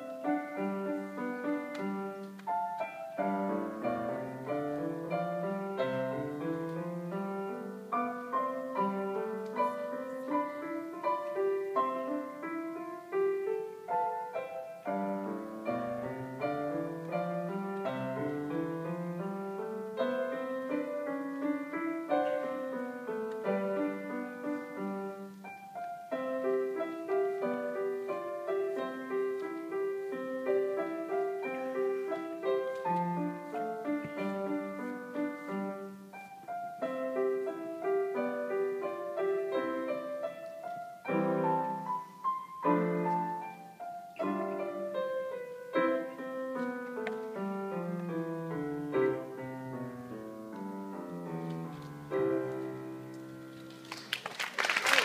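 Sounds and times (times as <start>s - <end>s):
classical grand piano piece: 0.0s - 55.0s.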